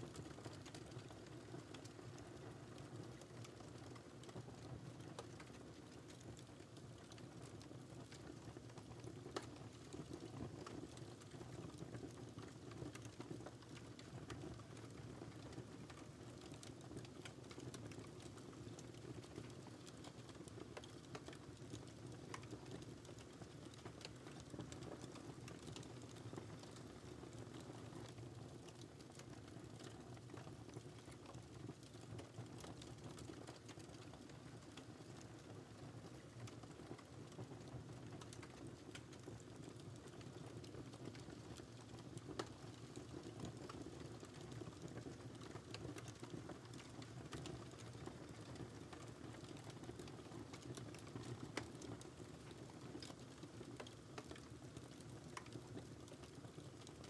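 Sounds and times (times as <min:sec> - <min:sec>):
fire popping and snapping: 0:00.1 - 0:57.0.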